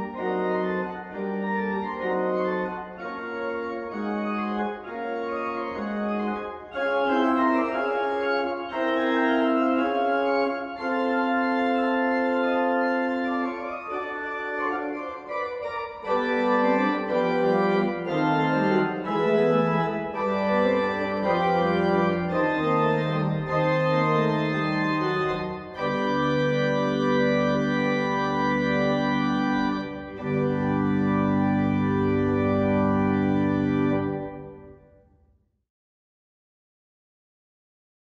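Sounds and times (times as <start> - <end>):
church organ chords: 0.0 - 35.0.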